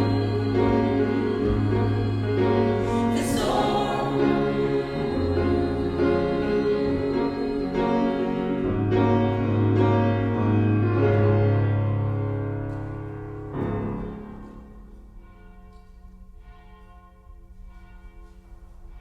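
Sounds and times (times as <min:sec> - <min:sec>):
piano chords: 0:00.0 - 0:16.6.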